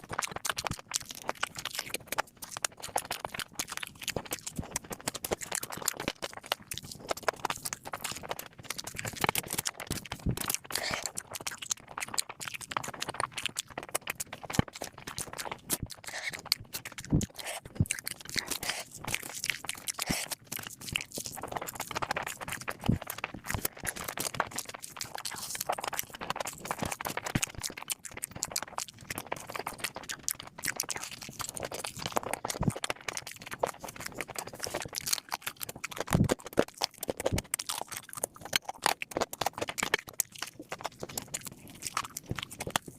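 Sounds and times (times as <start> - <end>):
person chewing and crunching: 0.0 - 42.9.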